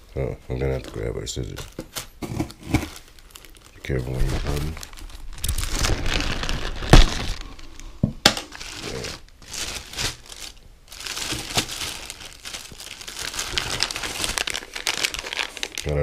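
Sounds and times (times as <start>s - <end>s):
plastic bags crinkling: 2.6s - 16.0s.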